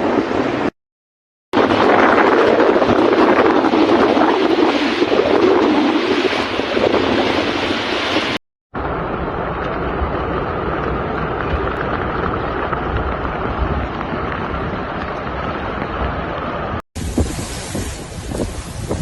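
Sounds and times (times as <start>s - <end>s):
floodwater rushing: 1.6s - 19.0s.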